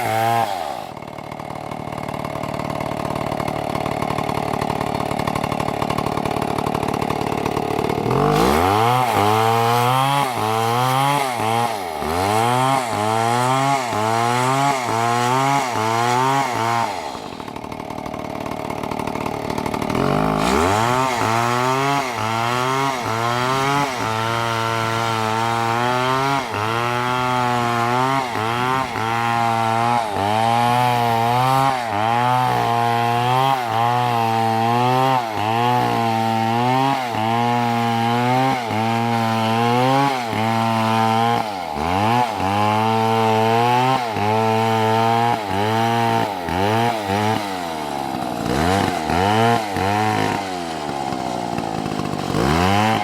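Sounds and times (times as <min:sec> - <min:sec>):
chainsaw cutting into tree trunk: 0:00.0 - 0:53.0.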